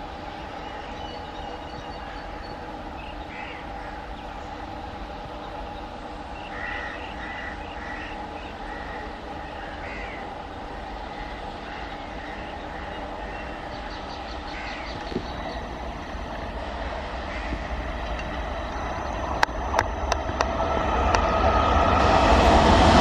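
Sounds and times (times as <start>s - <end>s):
electric locomotive hum: 0.0s - 23.0s
birds chirping: 0.2s - 20.8s.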